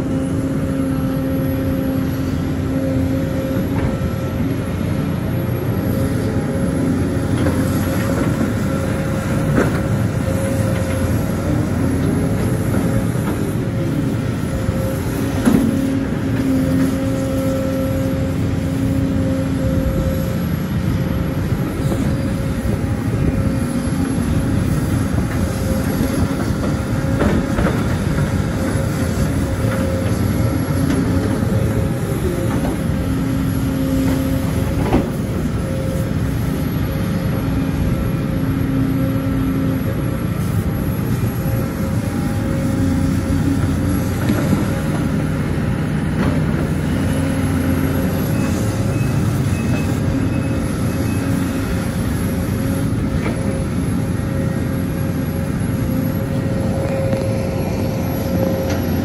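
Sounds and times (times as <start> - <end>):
excavator diesel engine: 0.0 - 59.0
hydraulic whine: 0.0 - 59.0.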